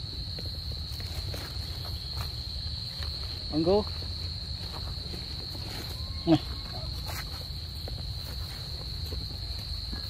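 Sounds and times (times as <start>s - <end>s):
insect chorus drone: 0.0s - 10.0s.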